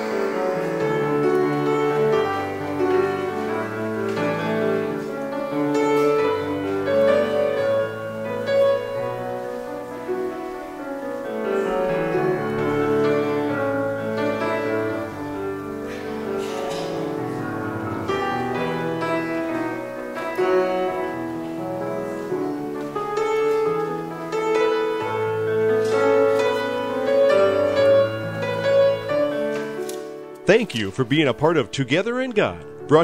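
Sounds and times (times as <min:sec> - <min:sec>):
slow piano chords: 0:00.0 - 0:33.0.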